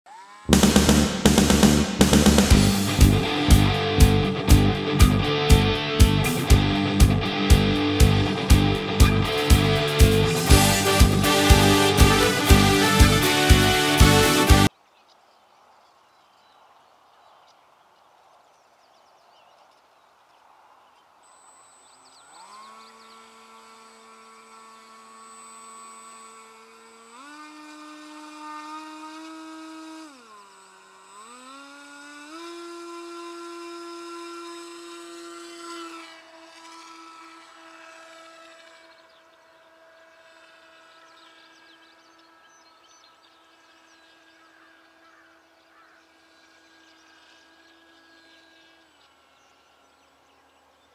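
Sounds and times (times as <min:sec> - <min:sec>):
electric motor and propeller whining: 0:00.1 - 0:14.8, 0:19.6 - 0:50.9.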